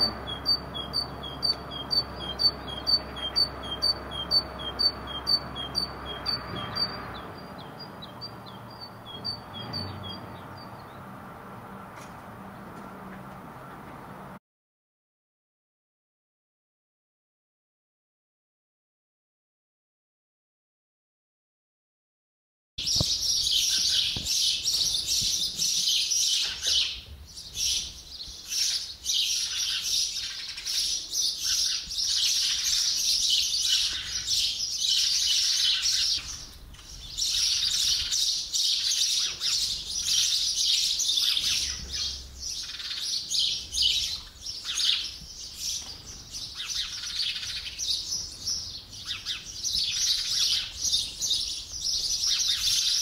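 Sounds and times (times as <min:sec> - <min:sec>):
birds chirping and twittering: 0:00.0 - 0:14.4, 0:22.8 - 0:53.0.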